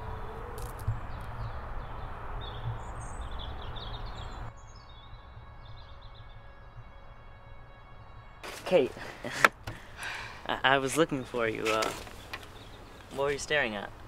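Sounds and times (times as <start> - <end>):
birds chirping: 0.0 - 7.1, 8.7 - 14.0
outdoor background low rumble: 0.0 - 14.0.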